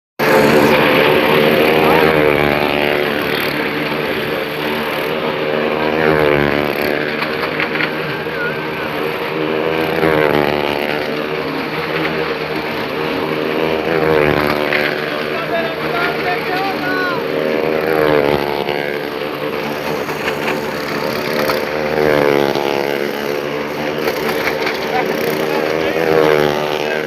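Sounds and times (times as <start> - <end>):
vehicle engines revving hard: 0.2 - 27.0.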